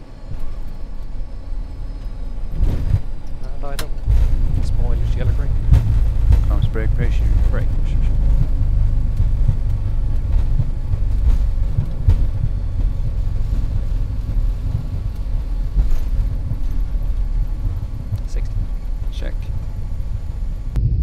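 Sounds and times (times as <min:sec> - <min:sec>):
airliner rumbling on runway: 0:00.0 - 0:21.0.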